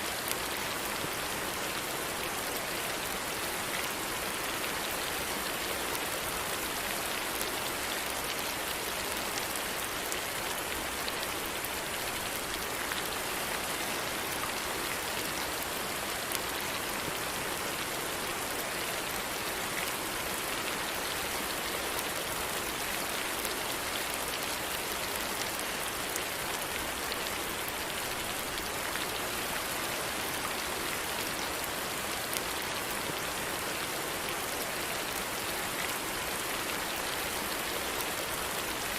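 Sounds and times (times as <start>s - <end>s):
steady rain hissing: 0.0s - 38.9s.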